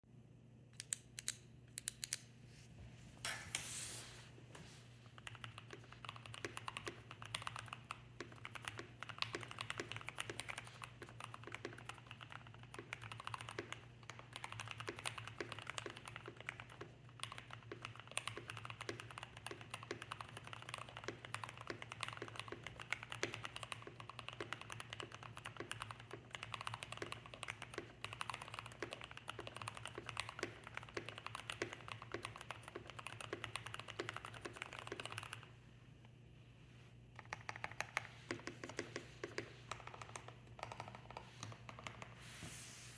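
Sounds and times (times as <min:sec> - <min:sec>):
low steady hum: 0:00.1 - 0:42.9
mechanical keyboard typing: 0:05.2 - 0:35.5, 0:37.2 - 0:42.2.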